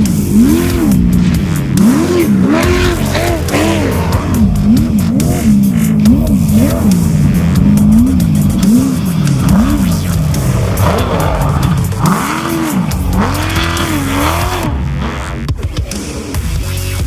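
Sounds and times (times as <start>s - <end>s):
electronic music: 0.0s - 17.0s
race vehicle engine revving: 0.0s - 17.0s.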